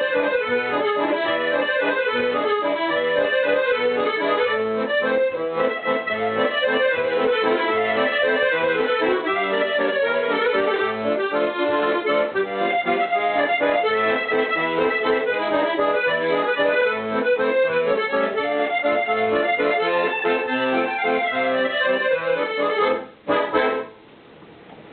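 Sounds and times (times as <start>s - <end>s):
lively accordion music: 0.0s - 24.0s.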